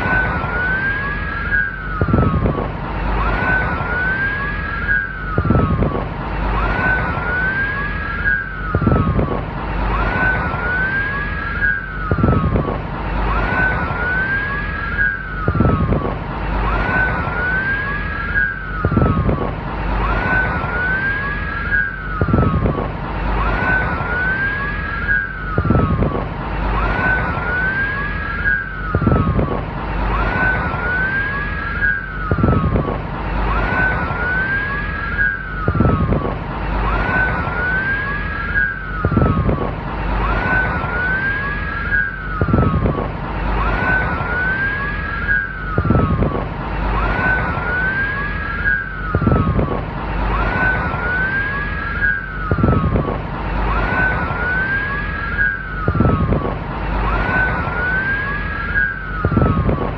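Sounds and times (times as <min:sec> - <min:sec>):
steady noisy background: 0:00.0 - 0:59.9.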